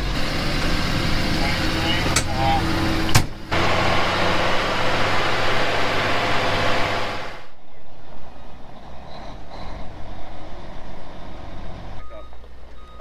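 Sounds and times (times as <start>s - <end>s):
farm vehicle engine and machinery: 0.0s - 13.0s
low engine rumble: 0.0s - 13.0s.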